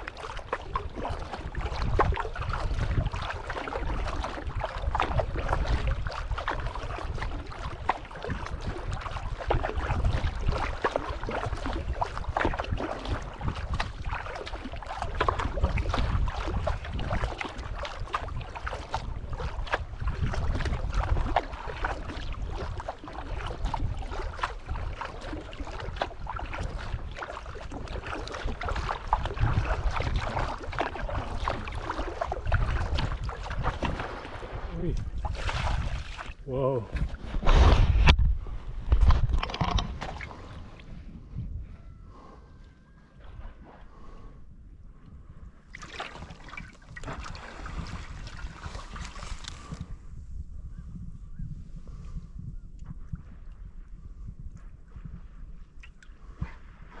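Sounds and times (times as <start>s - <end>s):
water lapping against kayak: 0.0s - 57.0s
wind rumbling on microphone: 0.0s - 57.0s.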